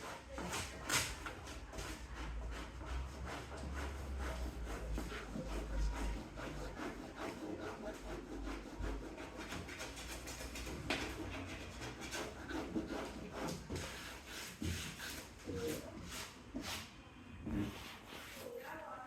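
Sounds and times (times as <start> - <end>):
rubbing on car hood: 1.5 - 16.9.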